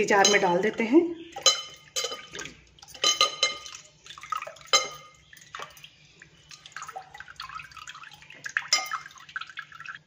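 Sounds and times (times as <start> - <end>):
wire skimmer clinking on glass bowl: 0.0 - 5.8, 6.8 - 9.5
water splashing and dripping: 1.4 - 10.0.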